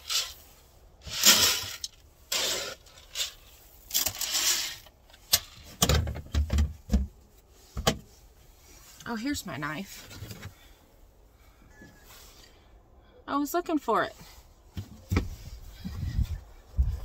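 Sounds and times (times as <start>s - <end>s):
rustling and scraping objects: 0.0s - 12.6s, 14.1s - 17.0s.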